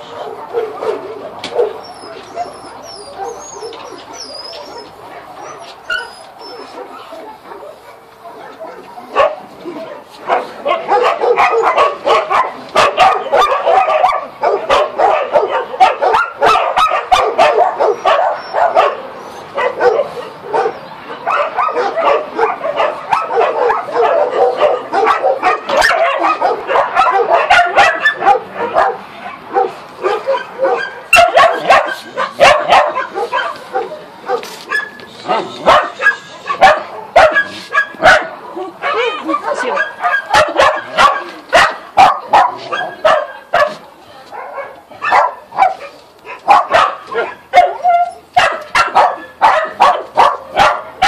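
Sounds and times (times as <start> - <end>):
dogs barking and yipping: 0.0 - 51.0.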